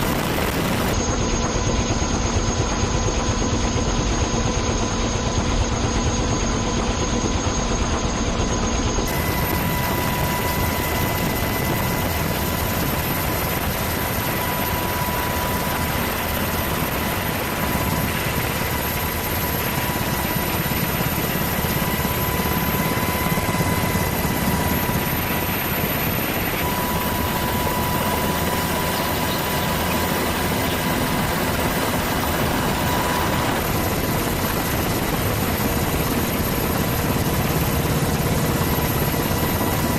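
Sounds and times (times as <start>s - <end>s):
aircraft engine roar: 0.0s - 39.9s.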